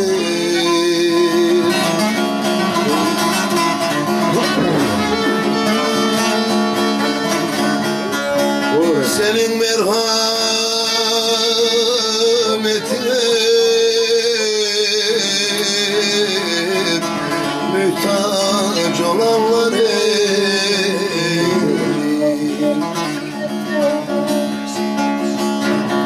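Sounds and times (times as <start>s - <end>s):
man singing: 0.0s - 26.0s
saz strummed folk melody: 0.0s - 26.0s.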